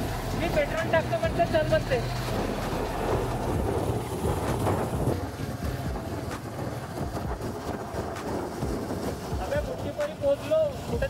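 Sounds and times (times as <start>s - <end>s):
motorcycle engine rumble: 0.0s - 11.0s
wind buffeting microphone: 0.0s - 11.0s.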